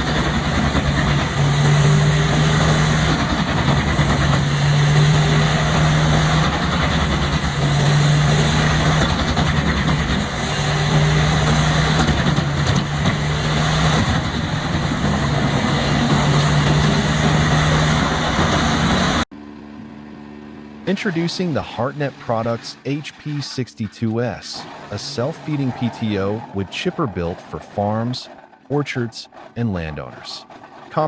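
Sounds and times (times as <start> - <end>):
diesel engine droning: 0.0 - 31.0
wood chipper grinding logs: 0.0 - 31.0.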